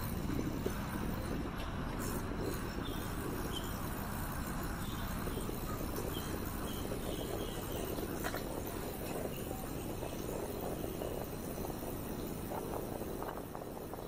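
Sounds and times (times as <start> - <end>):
bicycle tyres rolling on pavement: 0.0 - 14.0
wind on microphone: 0.0 - 14.0.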